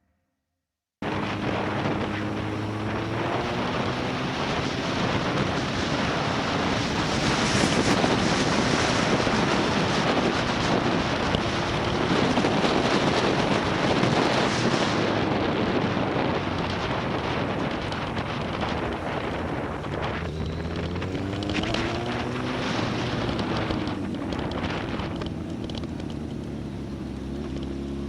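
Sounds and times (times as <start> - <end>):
wind rush on microphone: 1.0 - 27.8
motorcycle engine: 1.0 - 28.0.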